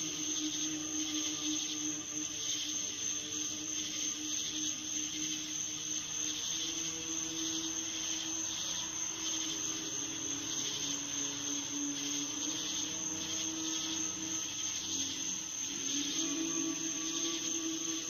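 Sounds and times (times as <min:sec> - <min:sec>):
constant high hiss: 0:00.0 - 0:18.0.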